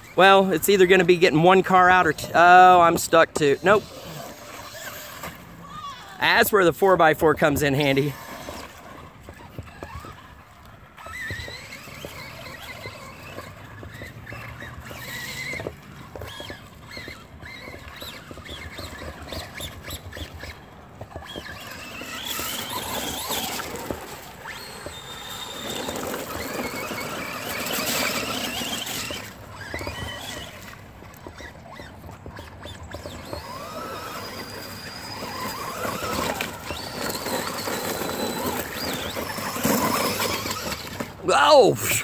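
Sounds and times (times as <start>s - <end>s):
electric motors whining: 0.0s - 42.0s.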